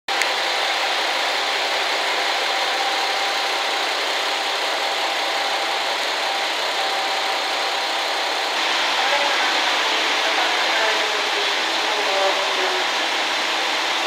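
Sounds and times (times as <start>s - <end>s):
diesel railcar engine idling: 0.1s - 14.0s.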